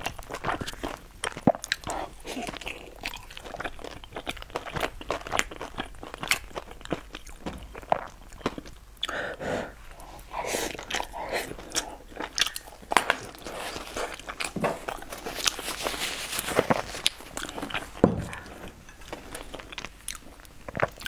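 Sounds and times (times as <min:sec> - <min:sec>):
wet mouth chewing: 0:00.0 - 0:09.2, 0:10.0 - 0:16.0, 0:16.6 - 0:21.0.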